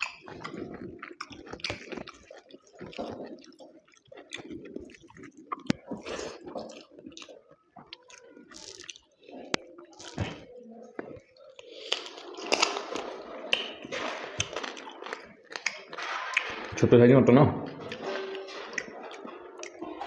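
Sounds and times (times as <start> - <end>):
wet chewing: 0.0 - 16.8, 17.8 - 20.0.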